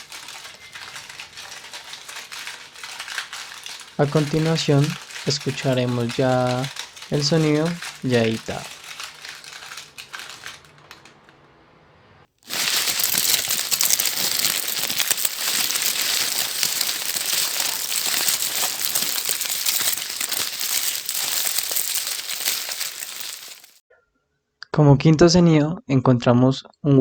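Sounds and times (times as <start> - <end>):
paper crumpling like crackling fire: 0.0 - 11.0, 12.3 - 23.8.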